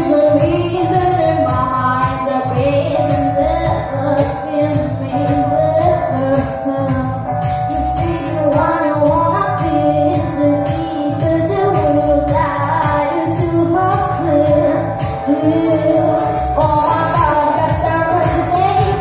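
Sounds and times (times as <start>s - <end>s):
girl singing into a microphone: 0.0s - 19.0s
pop backing music with beat: 0.0s - 19.0s.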